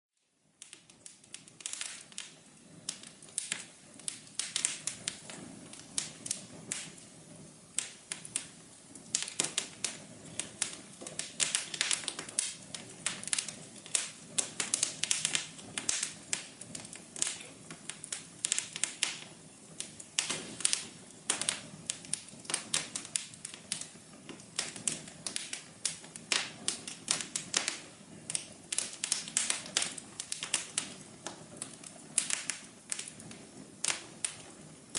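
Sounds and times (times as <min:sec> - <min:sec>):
fire crackling and popping: 0:00.2 - 0:34.9
soft low hiss: 0:00.2 - 0:34.9.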